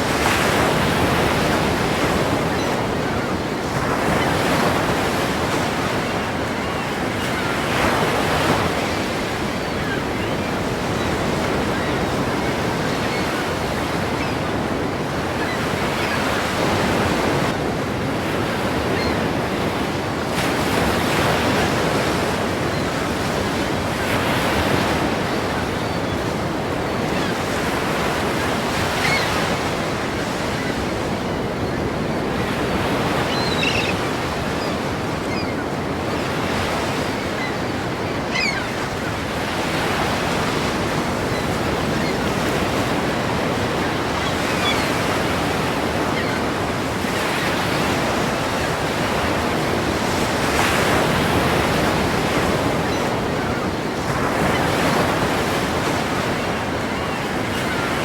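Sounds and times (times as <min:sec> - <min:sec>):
ocean waves crashing: 0:00.0 - 0:58.0.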